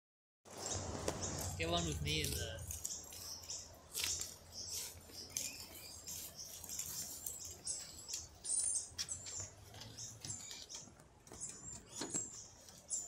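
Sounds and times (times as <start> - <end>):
small birds chirping: 0.5 - 13.0.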